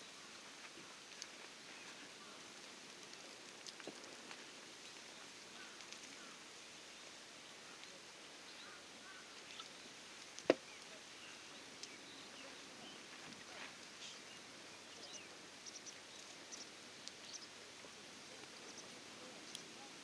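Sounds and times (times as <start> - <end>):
campfire crackling: 0.2 - 8.0, 9.3 - 20.0.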